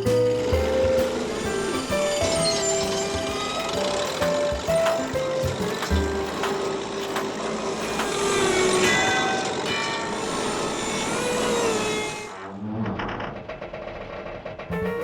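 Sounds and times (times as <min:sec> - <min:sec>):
cartoon construction machinery: 0:00.0 - 0:15.0.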